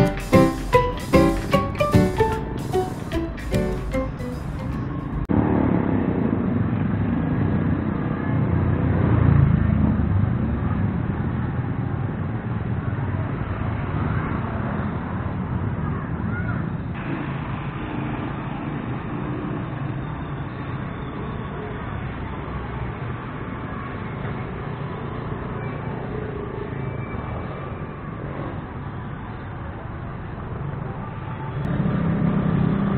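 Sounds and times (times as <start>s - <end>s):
cars and motorcycles passing: 2.6s - 32.9s.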